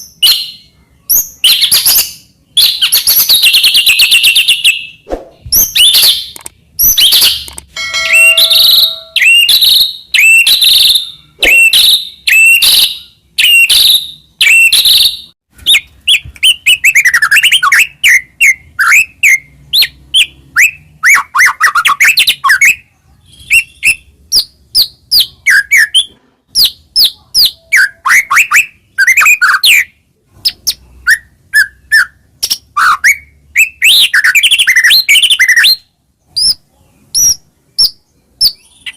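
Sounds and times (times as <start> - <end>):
songbird singing whistled notes: 0.0 - 38.9.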